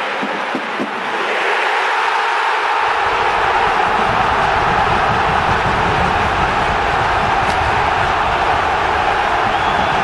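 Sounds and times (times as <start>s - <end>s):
stadium crowd chanting and singing: 0.0s - 10.0s.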